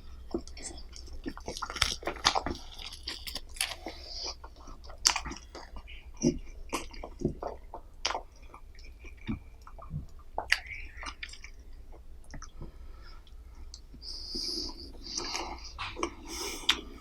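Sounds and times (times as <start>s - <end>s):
chewing food with mouth clicks: 0.2s - 17.0s.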